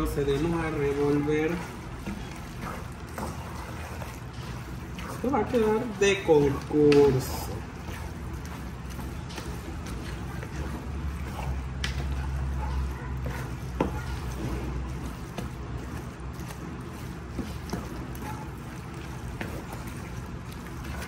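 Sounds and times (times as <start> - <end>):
steady low hum: 0.0 - 21.0
wooden spoon stirring thick food: 0.0 - 21.0.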